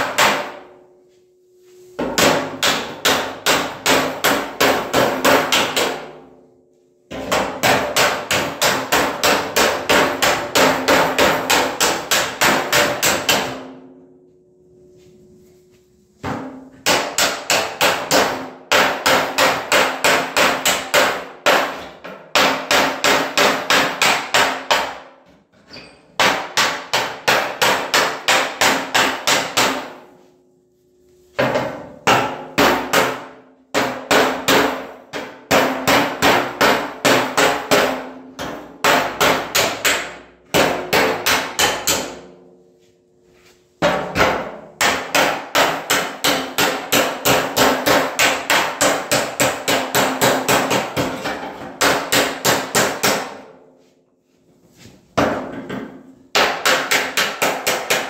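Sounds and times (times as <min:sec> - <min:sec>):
hammer blows on sheet metal: 0:00.0 - 0:00.9, 0:01.9 - 0:06.4, 0:07.1 - 0:14.1, 0:16.2 - 0:25.2, 0:26.2 - 0:30.3, 0:31.3 - 0:42.7, 0:43.7 - 0:53.7, 0:55.1 - 0:58.0.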